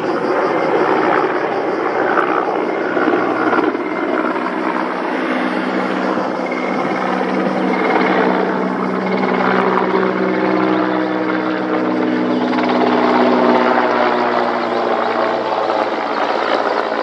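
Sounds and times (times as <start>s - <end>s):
helicopter turbine and rotor noise: 0.0s - 17.0s.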